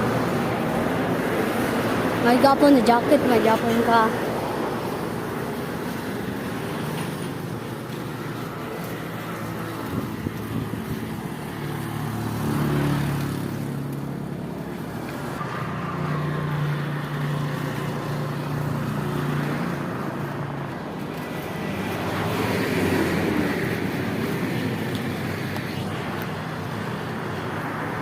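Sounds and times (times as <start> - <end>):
steady outdoor rush: 0.0 - 28.0
vehicle engines passing: 0.0 - 28.0.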